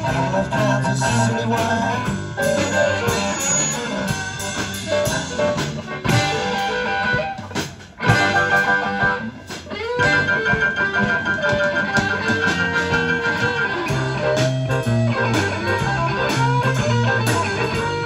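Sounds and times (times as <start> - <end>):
rock and roll band playing: 0.0 - 18.0.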